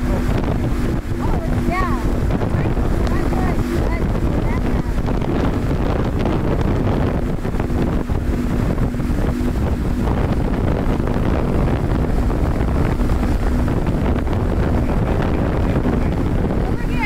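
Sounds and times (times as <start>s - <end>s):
outboard motor running: 0.0s - 17.0s
water rushing past boat: 0.0s - 17.0s
wind buffeting microphone: 0.0s - 17.0s.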